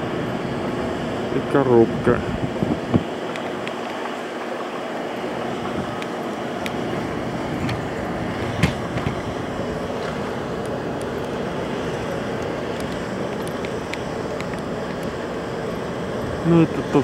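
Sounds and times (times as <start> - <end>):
ventilation equipment drone: 0.0 - 17.0.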